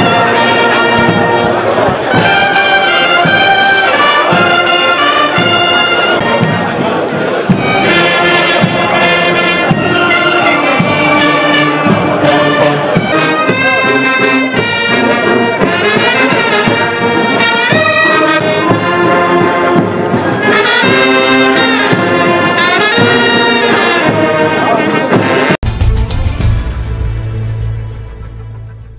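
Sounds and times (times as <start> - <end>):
brass band playing: 0.0 - 28.9.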